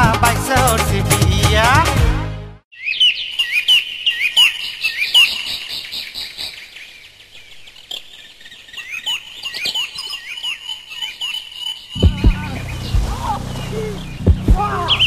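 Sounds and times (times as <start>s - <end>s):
birds chirping: 2.7s - 15.0s.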